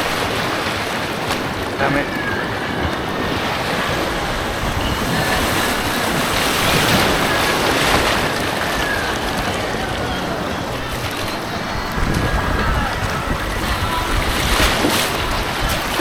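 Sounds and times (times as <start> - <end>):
rushing white water: 0.0 - 16.0.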